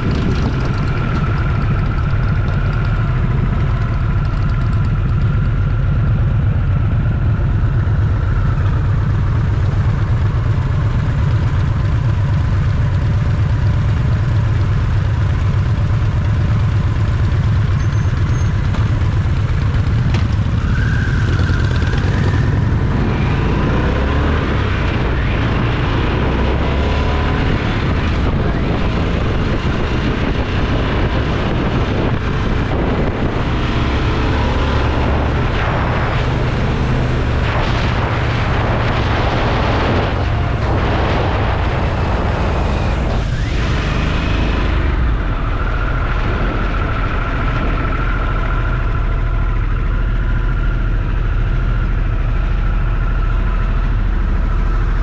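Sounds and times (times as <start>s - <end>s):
wind rushing over microphone: 0.0s - 11.1s, 19.4s - 55.0s
motorcycle engine running: 0.0s - 55.0s.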